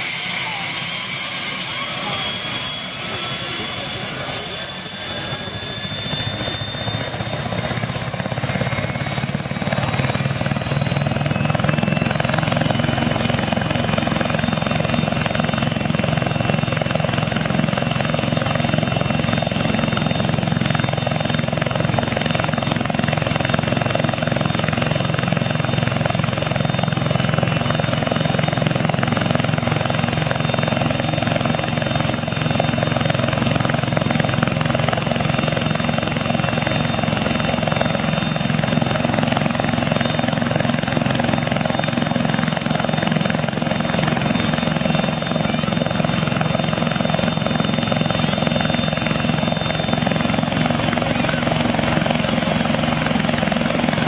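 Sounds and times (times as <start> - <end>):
high turbine whine: 0.0 - 54.0
low helicopter rotor noise: 0.0 - 54.0.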